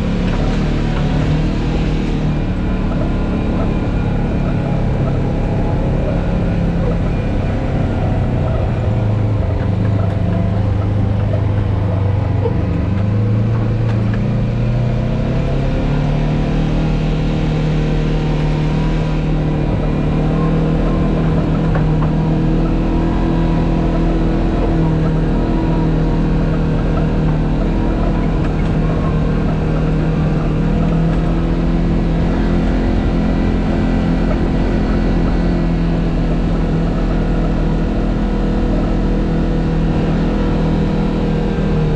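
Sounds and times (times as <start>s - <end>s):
off-road vehicle engine revving: 0.0s - 41.9s.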